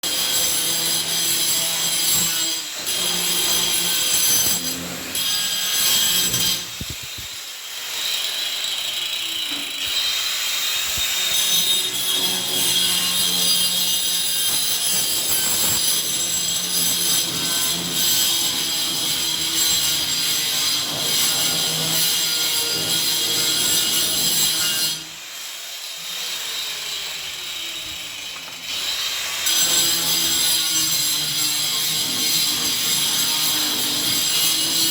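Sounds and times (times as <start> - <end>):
metalworking noise with whining: 0.0 - 34.9.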